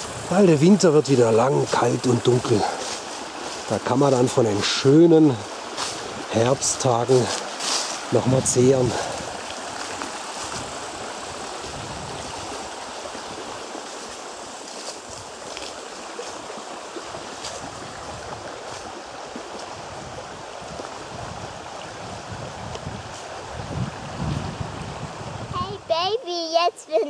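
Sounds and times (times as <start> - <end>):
stream running over stones: 0.0 - 25.8.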